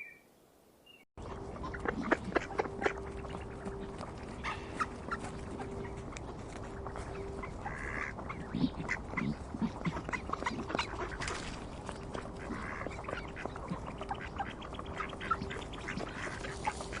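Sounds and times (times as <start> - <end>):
ducks quacking: 1.2 - 17.0.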